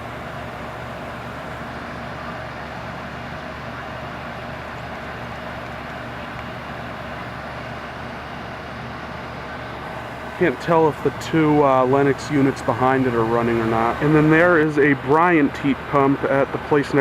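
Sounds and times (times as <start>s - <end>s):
condenser fan rushing: 0.0s - 17.0s
heat pump low hum: 0.0s - 17.0s.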